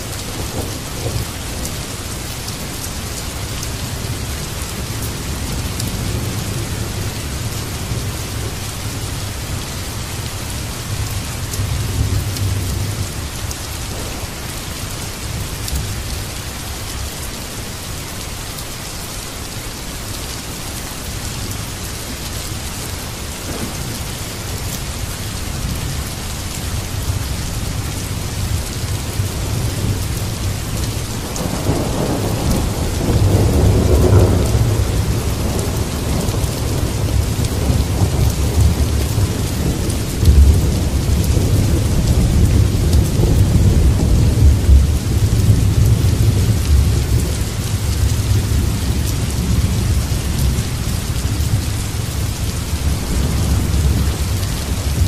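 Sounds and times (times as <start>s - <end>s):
heavy rain on standing water: 0.0s - 55.0s
thunder rumbling: 3.4s - 16.1s, 23.4s - 55.0s.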